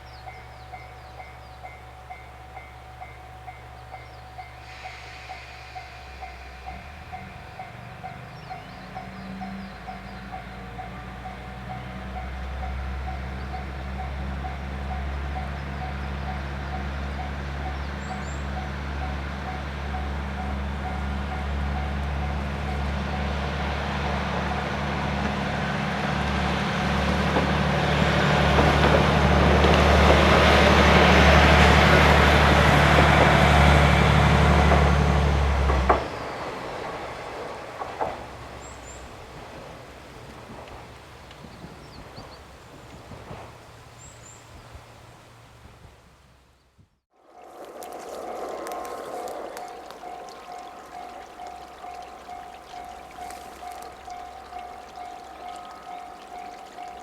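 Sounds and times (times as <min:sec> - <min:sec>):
train running: 0:00.0 - 0:43.9, 0:47.2 - 0:57.0.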